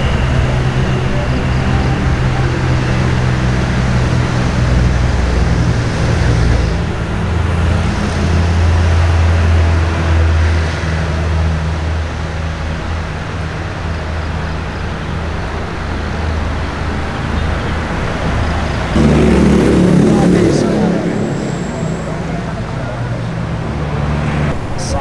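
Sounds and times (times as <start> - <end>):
road traffic: 0.0 - 25.0
vehicle engine humming: 0.0 - 25.0.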